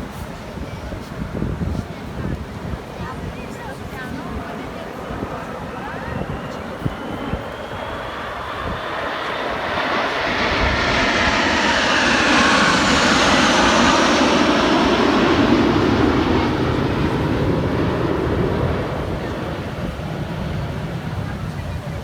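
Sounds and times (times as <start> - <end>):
airplane engine roar flying past: 3.0 - 22.0.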